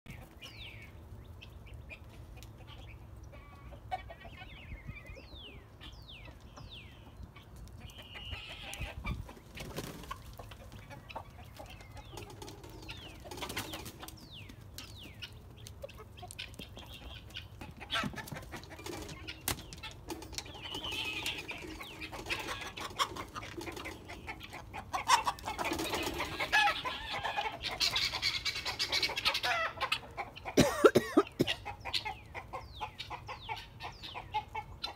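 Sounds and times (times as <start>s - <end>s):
chickens calling in alarm: 0.1s - 34.9s.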